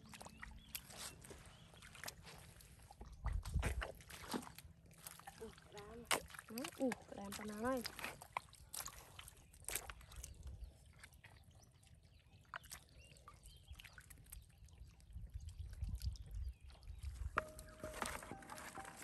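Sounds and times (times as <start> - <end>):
wet squelches in mud: 0.0 - 19.0.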